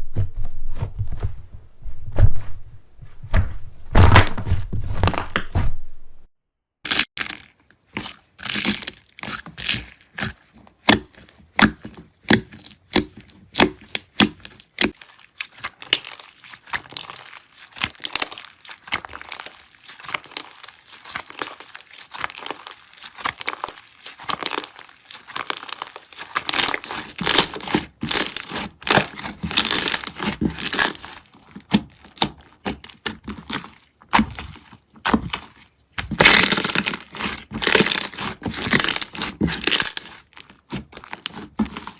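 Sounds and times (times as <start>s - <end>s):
slime crackling and popping: 6.9s - 41.9s.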